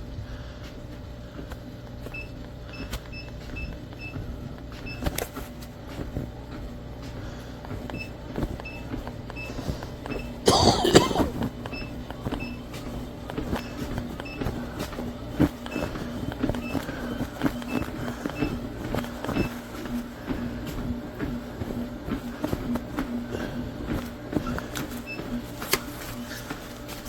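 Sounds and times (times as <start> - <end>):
treadmill motor hum: 0.0 - 27.0.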